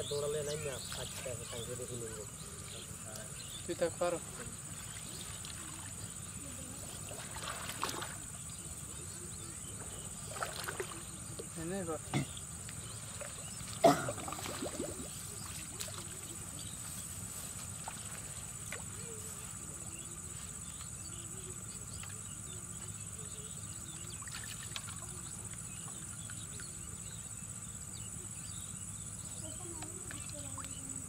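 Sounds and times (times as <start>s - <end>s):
distant voices: 0.0s - 31.0s.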